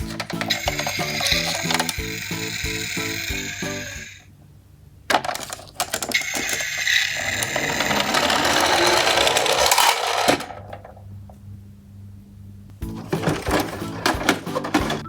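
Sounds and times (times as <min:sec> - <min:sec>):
toy truck wheels rolling and rattling: 0:00.0 - 0:04.2, 0:05.1 - 0:11.0, 0:12.9 - 0:15.0.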